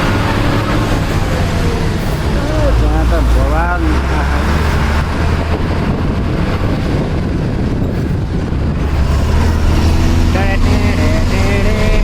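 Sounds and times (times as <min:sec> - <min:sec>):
rough road noise: 0:00.0 - 0:12.0
truck engine droning: 0:00.0 - 0:12.0
wind noise: 0:00.0 - 0:12.0.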